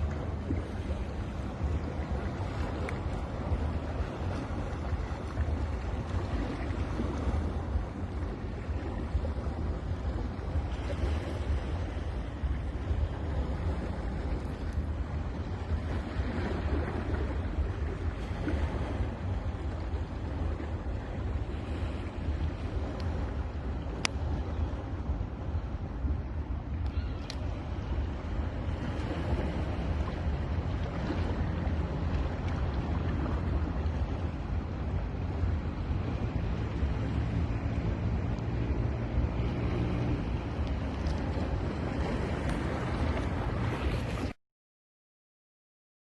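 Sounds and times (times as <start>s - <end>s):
sea waves washing on beach: 0.0s - 44.4s
wind buffeting microphone: 0.0s - 44.4s.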